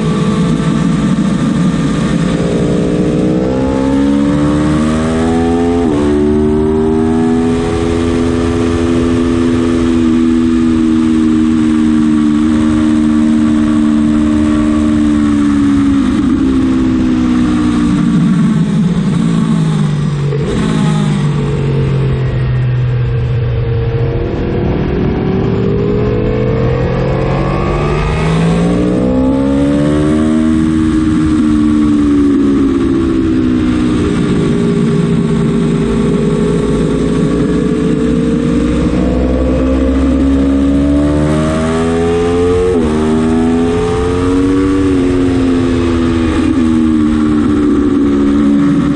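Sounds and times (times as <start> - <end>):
motorcycle engine at speed: 0.0 - 48.9
wind rush: 0.0 - 48.9.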